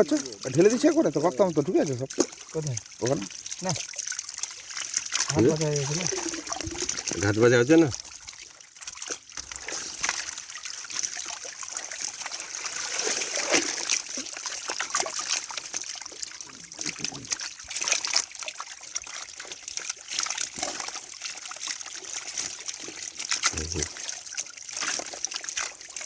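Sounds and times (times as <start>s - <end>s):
pond water splashing: 0.0s - 26.0s.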